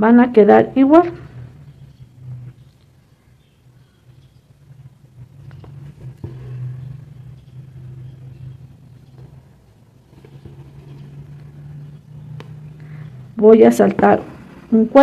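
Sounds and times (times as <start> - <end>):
motor humming: 1.2 - 13.4.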